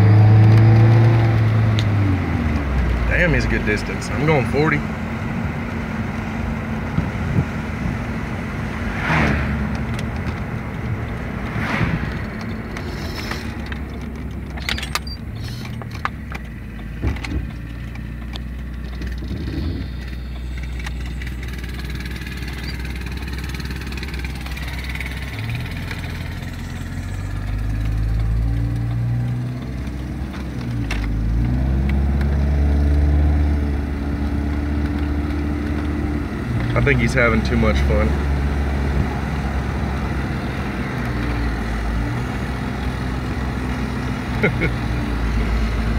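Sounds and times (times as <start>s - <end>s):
car engine and road noise: 0.0s - 45.9s.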